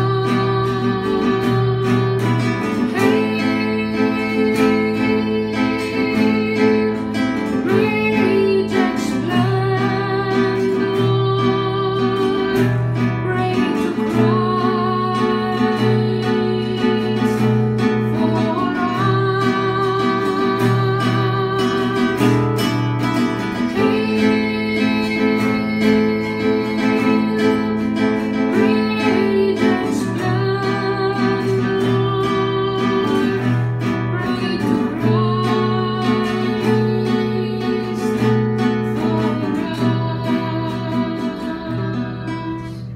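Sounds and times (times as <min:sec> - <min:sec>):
person singing with vibrato: 0:00.0 - 0:42.9
strummed acoustic guitar: 0:00.0 - 0:42.9.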